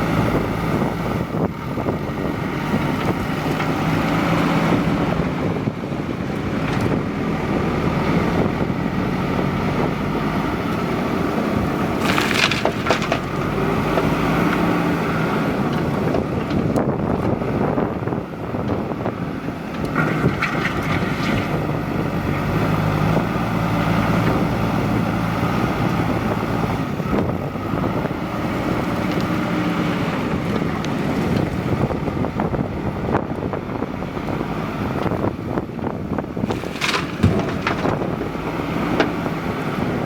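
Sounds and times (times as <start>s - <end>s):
diesel engine under load: 0.0s - 40.0s
wind noise on microphone: 0.0s - 40.0s.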